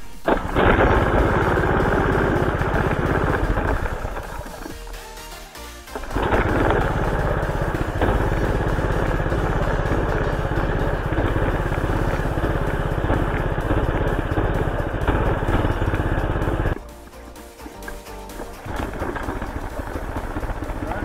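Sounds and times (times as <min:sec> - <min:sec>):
small gas engine running: 0:00.0 - 0:21.0.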